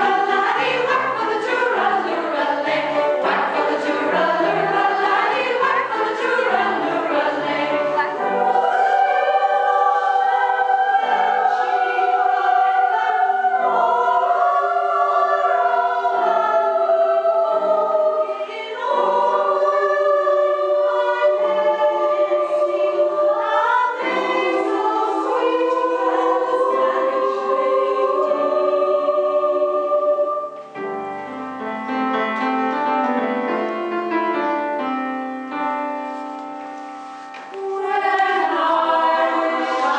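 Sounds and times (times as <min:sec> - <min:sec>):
choir singing: 0:00.0 - 0:31.4, 0:37.5 - 0:39.9.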